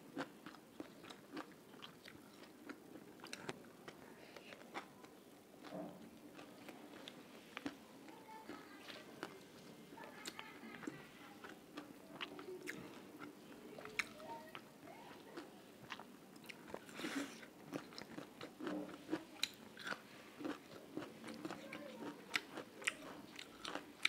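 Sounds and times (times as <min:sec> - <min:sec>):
chewing and mouth sounds: 0:00.2 - 0:14.6, 0:15.3 - 0:24.0.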